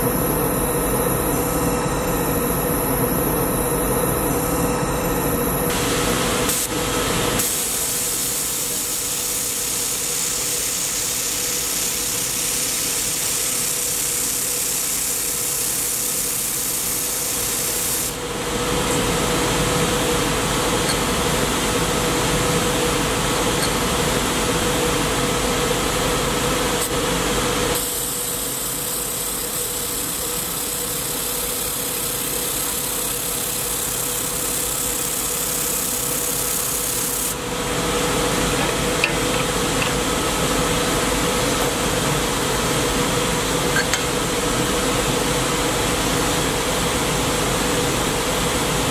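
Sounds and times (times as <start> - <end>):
laser welding machine humming: 0.0 - 48.9.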